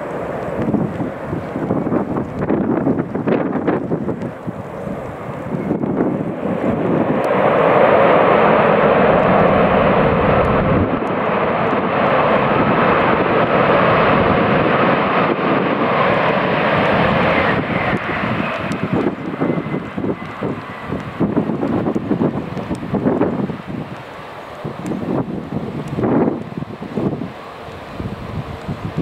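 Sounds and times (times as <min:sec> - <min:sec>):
jet engines running at high power: 0:00.0 - 0:29.0.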